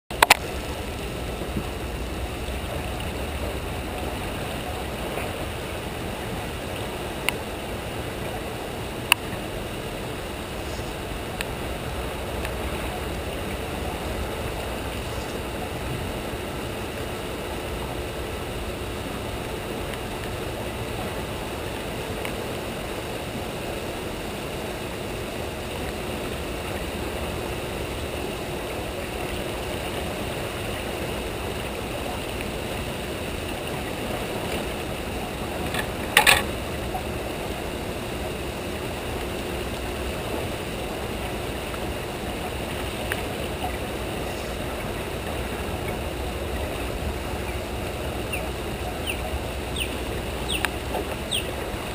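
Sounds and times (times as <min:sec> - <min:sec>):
turbulent water rushing: 0:00.1 - 0:51.9.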